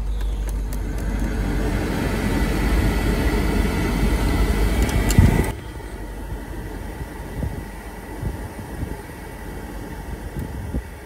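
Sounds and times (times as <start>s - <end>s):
air rushing through vents: 0.3s - 11.0s.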